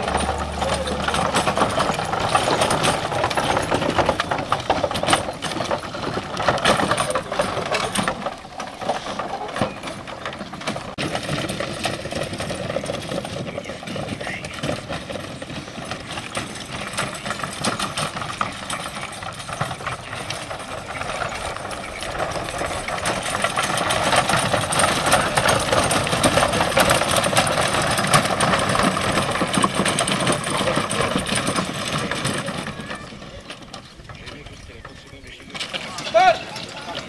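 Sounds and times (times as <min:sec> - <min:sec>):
wooden wagon rattling and clattering: 0:00.0 - 0:37.0.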